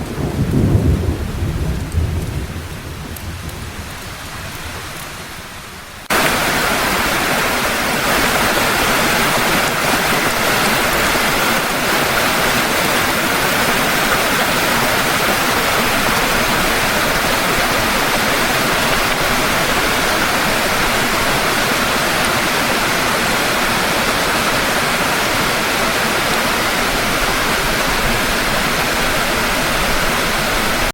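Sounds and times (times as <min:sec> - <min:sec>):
heavy rain hissing: 0:00.0 - 0:30.9.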